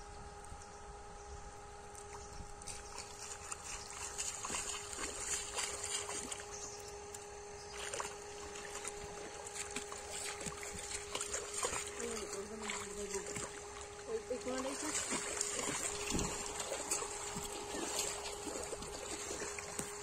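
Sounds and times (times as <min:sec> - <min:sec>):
faint steady hum: 0:00.0 - 0:20.0
feet splashing through water: 0:02.0 - 0:06.6, 0:07.7 - 0:20.0.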